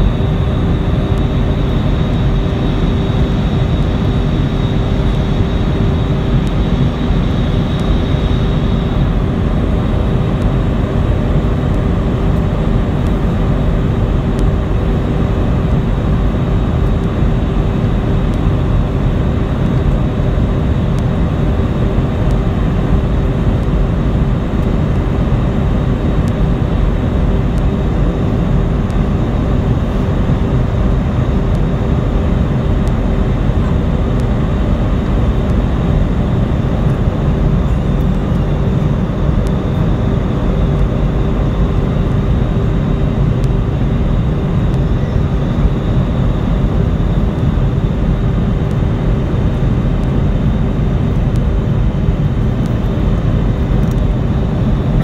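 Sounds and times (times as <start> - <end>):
jet cabin engine roar: 0.0 - 55.0
steady low hum: 0.0 - 55.0.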